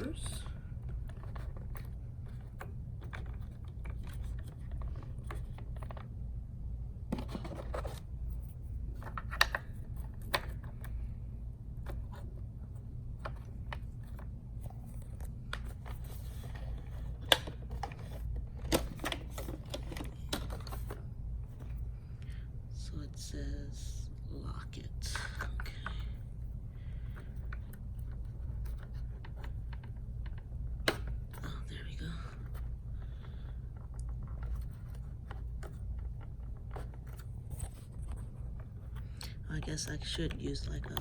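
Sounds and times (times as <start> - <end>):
plastic parts clicking and tapping: 0.0 - 6.1, 7.1 - 11.1, 11.8 - 22.4, 26.8 - 41.0
steady low hum: 0.0 - 41.0.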